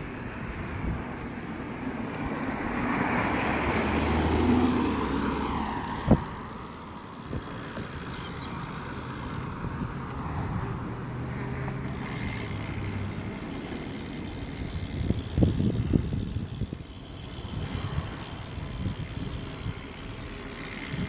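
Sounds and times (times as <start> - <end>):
tyres and wind rushing: 0.0 - 21.0.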